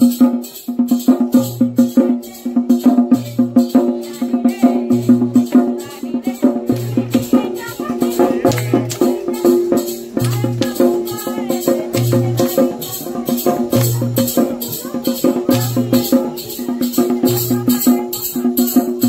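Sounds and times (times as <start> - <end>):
quick percussion beat: 0.0 - 19.0.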